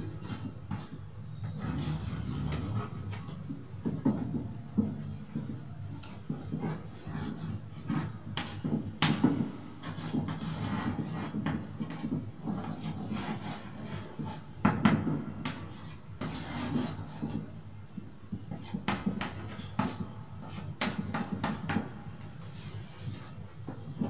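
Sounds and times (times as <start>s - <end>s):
chalk scraping on blackboard: 0.0s - 17.6s, 18.5s - 24.0s.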